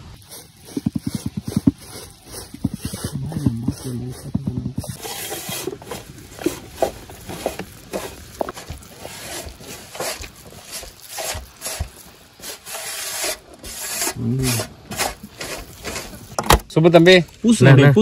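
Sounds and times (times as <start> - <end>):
hand squishing paste on metal: 0.0 - 16.4.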